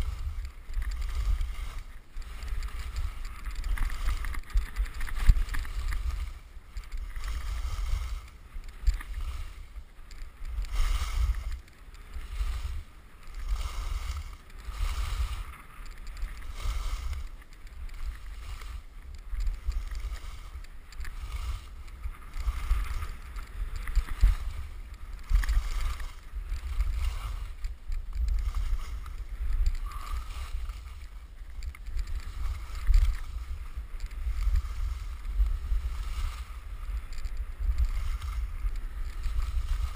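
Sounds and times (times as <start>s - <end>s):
skis scraping on snow: 0.0s - 39.9s
wind rumble on microphone: 0.0s - 39.9s.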